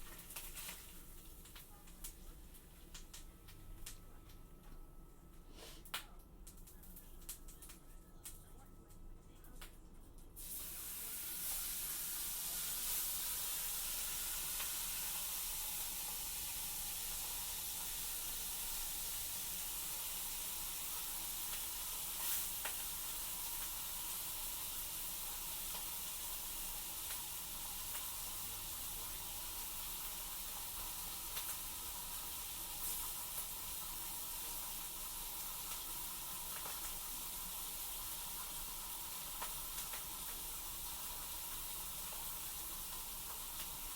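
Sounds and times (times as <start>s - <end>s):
food sizzling in a frying pan: 0.0s - 4.1s, 9.6s - 43.9s.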